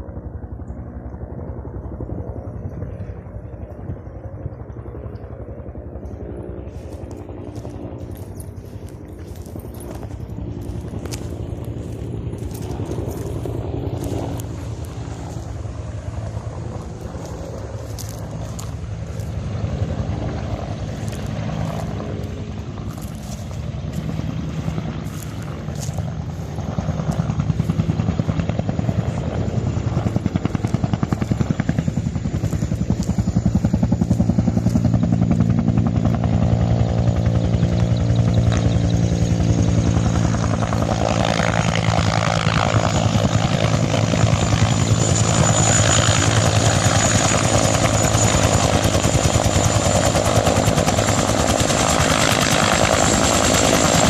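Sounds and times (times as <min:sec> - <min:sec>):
helicopter rotor and turbine: 0:00.0 - 0:54.0.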